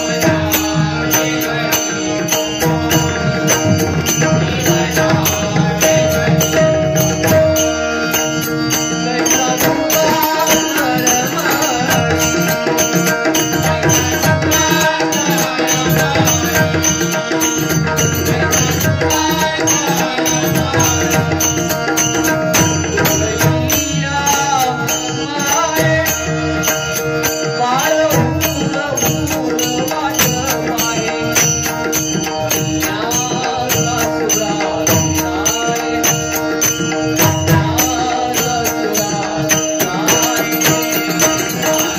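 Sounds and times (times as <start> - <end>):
harmonium drone: 0.0 - 41.9
man singing: 0.0 - 41.9.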